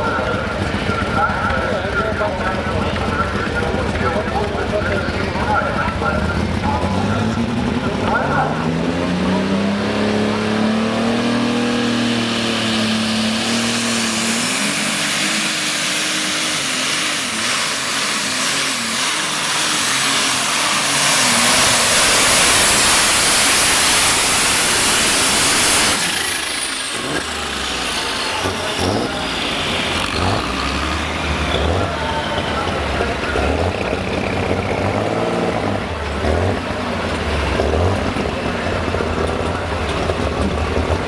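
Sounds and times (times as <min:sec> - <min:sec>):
tractor engine at full throttle: 0:00.0 - 0:41.0.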